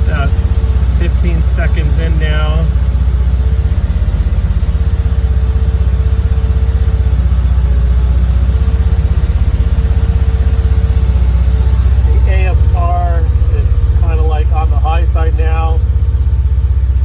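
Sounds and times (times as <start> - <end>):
car engine idling: 0.0 - 17.0
faint steady whine: 0.0 - 17.0.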